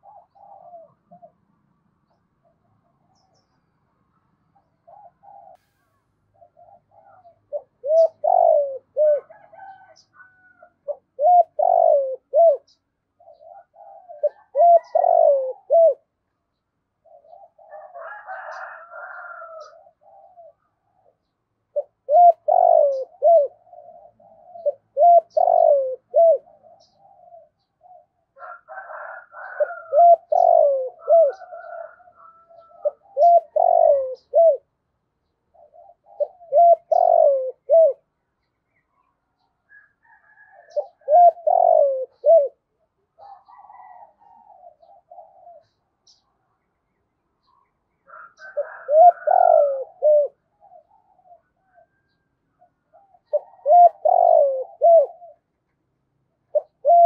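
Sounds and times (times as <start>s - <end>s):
dove cooing: 0.0s - 3.6s, 4.5s - 16.2s, 16.8s - 38.2s, 38.8s - 46.4s, 47.4s - 55.6s, 56.4s - 57.0s.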